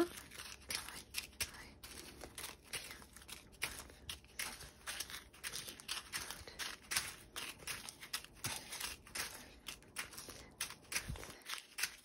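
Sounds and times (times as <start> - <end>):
plastic zip bags crinkling: 0.0 - 12.0.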